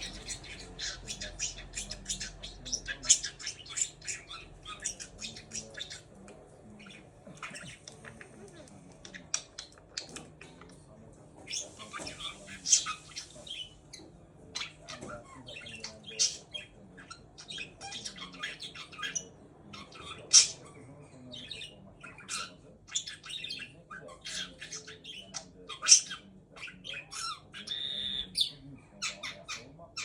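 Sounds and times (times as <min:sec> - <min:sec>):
budgerigar chattering: 0:00.0 - 0:06.1, 0:06.7 - 0:08.4, 0:11.4 - 0:30.0.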